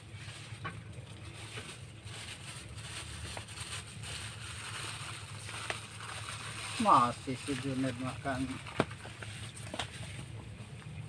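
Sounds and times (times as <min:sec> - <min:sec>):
kittens crunching dry kibble: 0:00.0 - 0:11.0.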